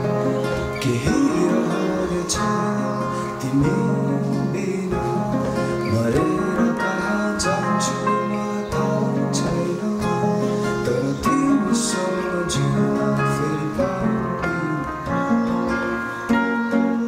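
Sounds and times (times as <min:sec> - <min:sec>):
acoustic guitars: 0:00.0 - 0:17.0
keyboard playing: 0:00.0 - 0:17.0
man singing: 0:00.0 - 0:17.0.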